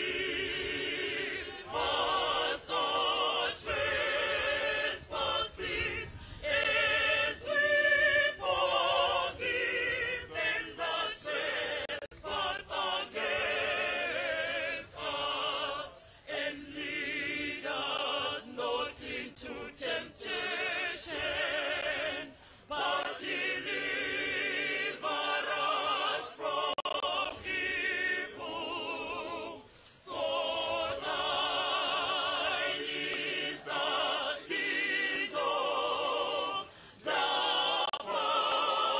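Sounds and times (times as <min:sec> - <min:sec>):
mixed choir singing: 0:00.0 - 0:38.9.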